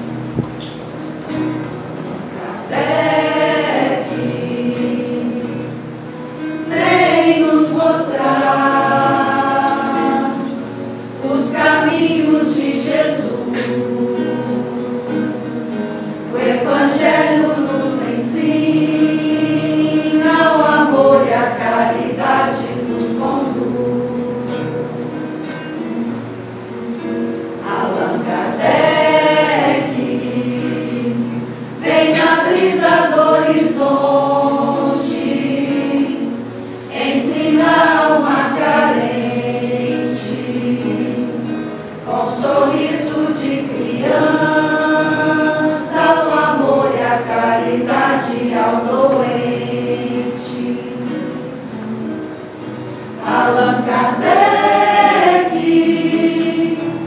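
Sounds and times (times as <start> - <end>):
quiet acoustic guitar: 0.0 - 57.0
small mixed choir singing: 0.0 - 57.0.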